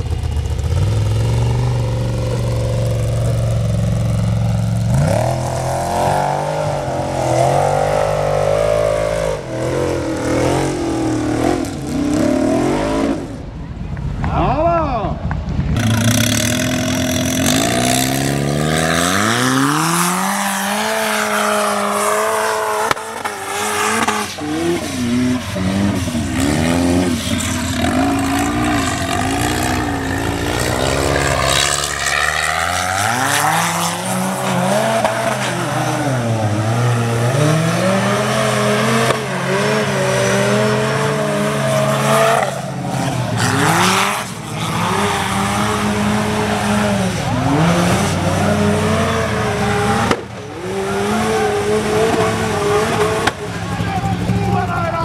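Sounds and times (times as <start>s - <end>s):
buggy engine revving hard: 0.0s - 13.5s, 15.8s - 55.0s.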